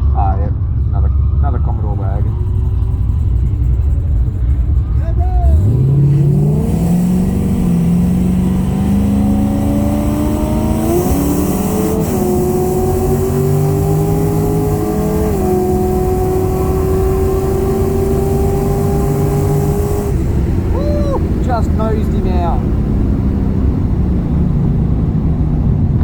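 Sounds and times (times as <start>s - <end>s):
car engine at full throttle: 0.0s - 26.0s.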